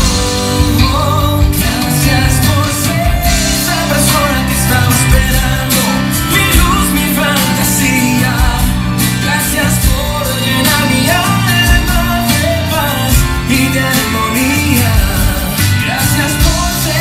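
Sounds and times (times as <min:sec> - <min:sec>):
pop song with singer and band: 0:00.0 - 0:17.0.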